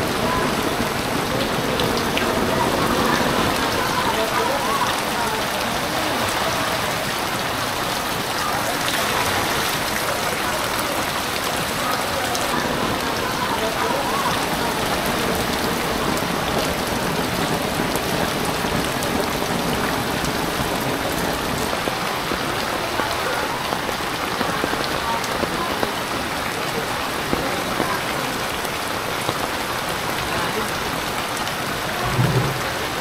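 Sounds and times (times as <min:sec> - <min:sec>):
rain falling on water: 0:00.0 - 0:33.0.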